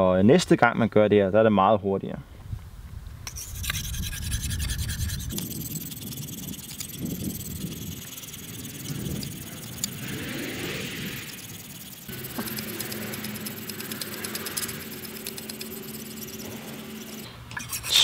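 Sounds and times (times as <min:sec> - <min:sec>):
knife scraping on whetstone: 0:03.3 - 0:18.0.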